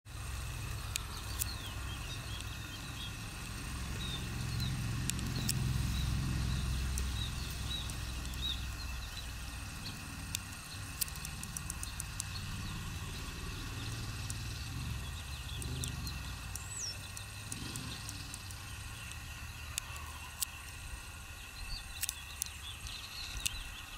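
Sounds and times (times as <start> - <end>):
steady low rumble: 0.1 - 23.9
sharp clicks: 0.2 - 23.9.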